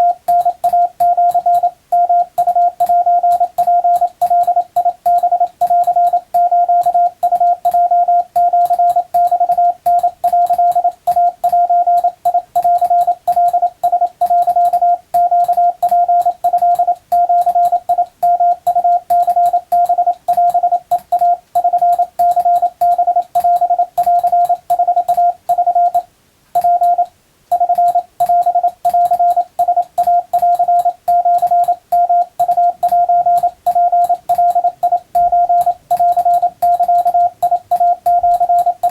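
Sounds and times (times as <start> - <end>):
morse code tone: 0.0 - 38.9.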